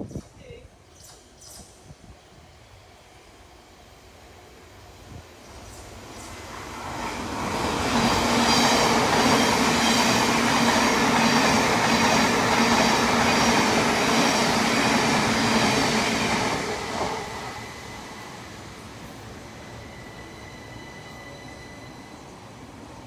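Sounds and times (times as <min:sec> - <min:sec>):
train passing at speed: 0:00.1 - 0:23.0.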